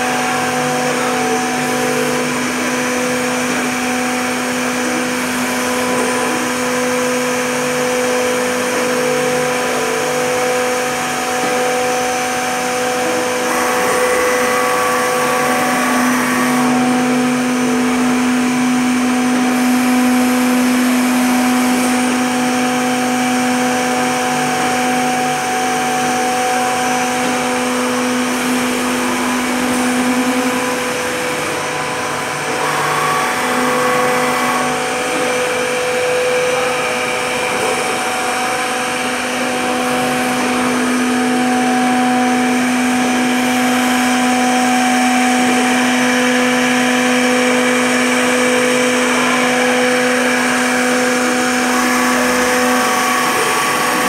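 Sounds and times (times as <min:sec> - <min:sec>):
machinery humming and whining: 0:00.0 - 0:54.0.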